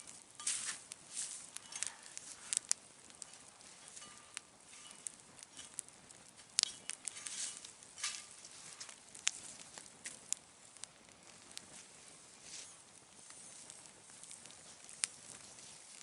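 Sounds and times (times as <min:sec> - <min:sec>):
campfire crackling and popping: 0:00.0 - 0:16.0
fire hissing: 0:00.0 - 0:16.0.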